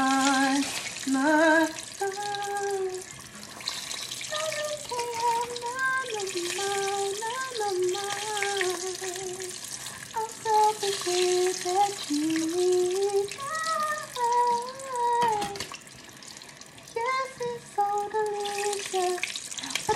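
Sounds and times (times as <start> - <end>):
food frying in oil: 0.0 - 19.9.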